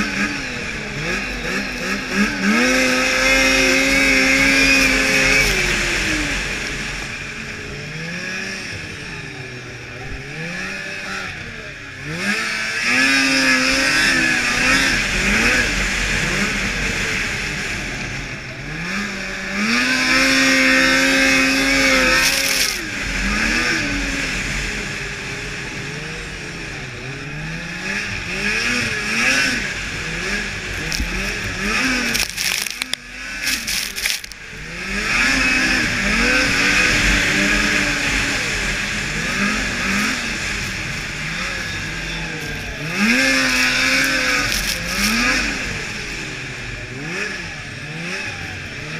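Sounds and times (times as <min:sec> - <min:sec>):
engine crackles: 0:00.0 - 0:48.9
snowmobile engine revving: 0:00.0 - 0:48.9.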